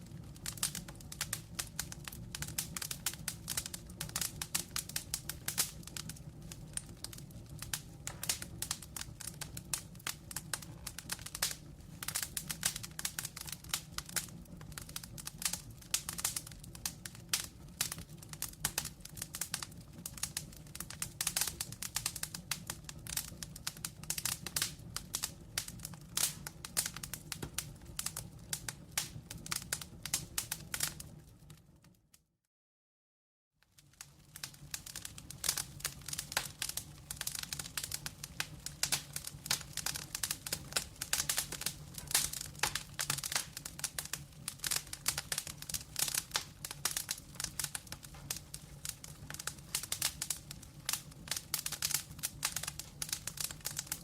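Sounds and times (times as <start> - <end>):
wood fire crackling: 0.0 - 32.1, 33.6 - 54.0.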